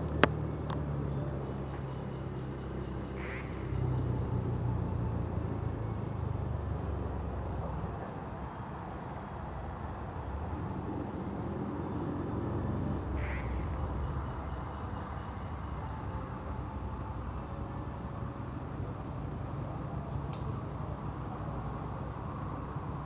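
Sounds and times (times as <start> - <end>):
insects chirping: 0.0 - 23.0
vehicle idling rumble: 0.0 - 23.0.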